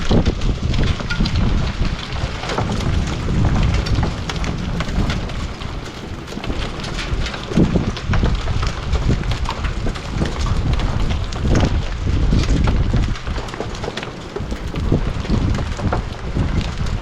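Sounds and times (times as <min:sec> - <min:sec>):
wind buffeting microphone: 0:00.0 - 0:17.0
hailstones pelting down: 0:00.3 - 0:16.9.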